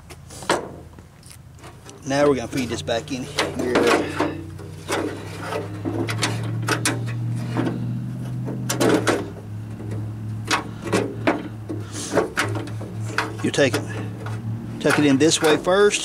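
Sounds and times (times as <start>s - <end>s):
metal door latch clicking and scraping: 3.1s - 16.0s.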